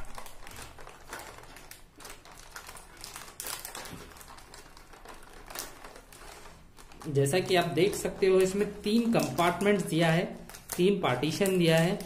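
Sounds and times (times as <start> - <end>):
packaging film crinkling: 0.0 - 12.0.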